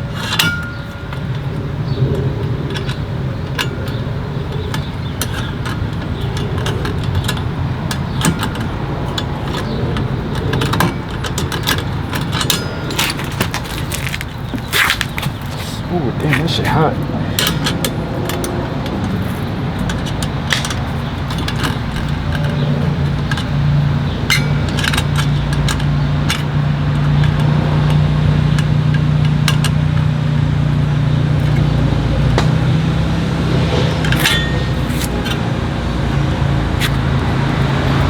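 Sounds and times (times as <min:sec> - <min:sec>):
car engine humming: 0:00.0 - 0:38.0
metal tools clinking: 0:00.0 - 0:38.0.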